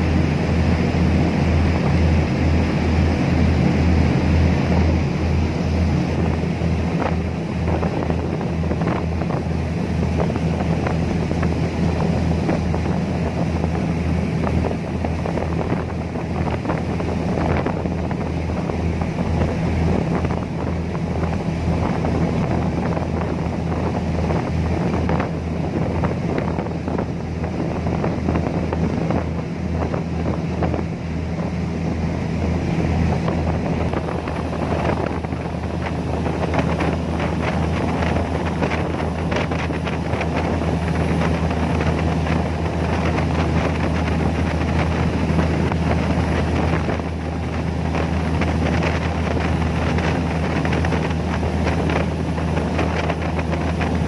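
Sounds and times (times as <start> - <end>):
ferry engines droning: 0.0 - 54.0
rush of churned water: 0.0 - 54.0
wind buffeting microphone: 0.0 - 54.0.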